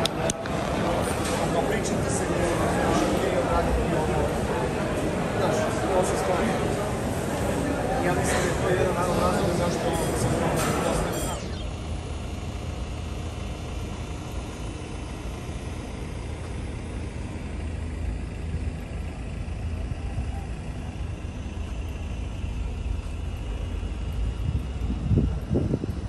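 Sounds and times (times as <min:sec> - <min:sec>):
road vehicle engine rumble: 0:00.0 - 0:26.0.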